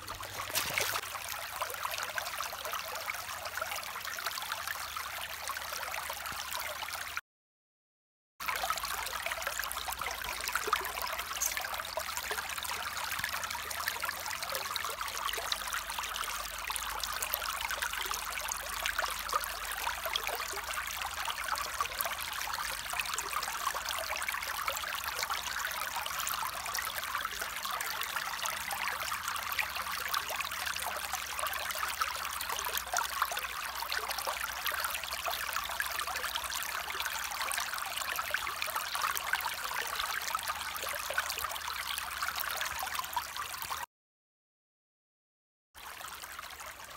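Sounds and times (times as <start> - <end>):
stream flowing over rocks: 0.0 - 7.1, 8.4 - 43.8, 45.8 - 46.9.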